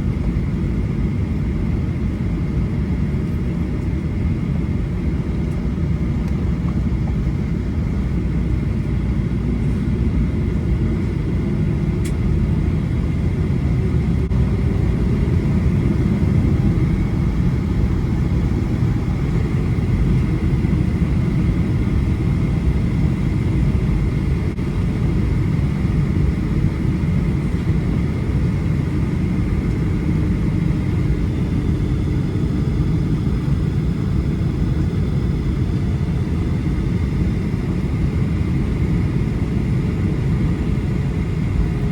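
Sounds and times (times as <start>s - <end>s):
faint steady whine: 0.0s - 41.9s
low rumble inside airplane cabin: 0.0s - 41.9s.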